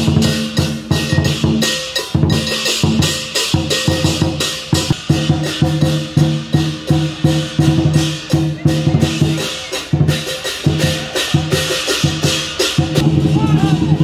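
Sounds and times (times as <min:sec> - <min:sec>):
cymbals clashing: 0:00.0 - 0:14.0
large drum beaten fast: 0:00.0 - 0:14.0.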